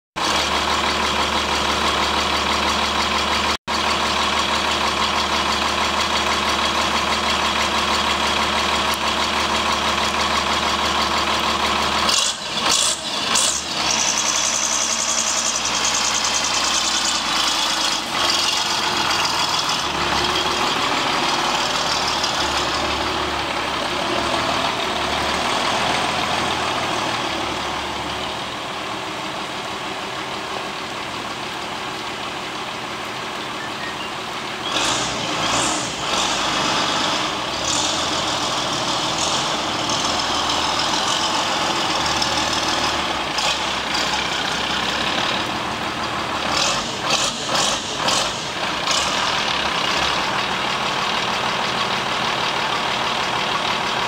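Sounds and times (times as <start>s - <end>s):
tractor diesel engine running: 0.2s - 54.0s.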